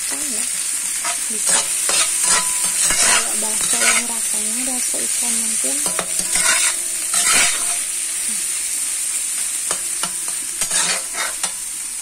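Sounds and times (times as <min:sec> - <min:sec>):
tofu sizzling in hot oil: 0:00.0 - 0:12.0
metal spatula scraping wok: 0:00.9 - 0:11.9.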